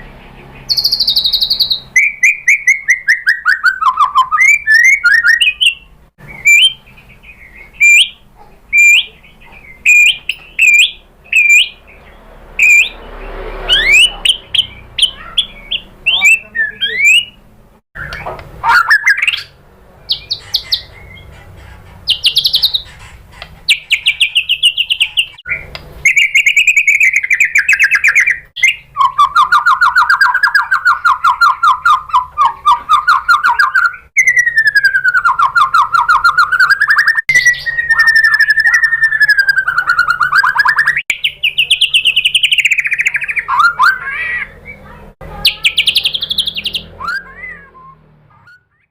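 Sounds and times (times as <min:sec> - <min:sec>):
bird singing trills: 0:00.0 - 0:48.9.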